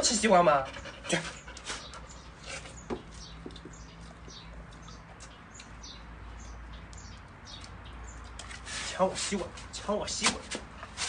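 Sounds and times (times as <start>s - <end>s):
small birds chirping: 0.1s - 10.2s.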